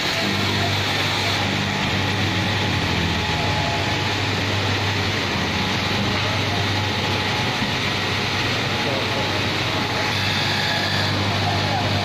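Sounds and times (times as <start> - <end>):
constant machinery noise: 0.0 - 12.0
low motor hum: 0.0 - 12.0.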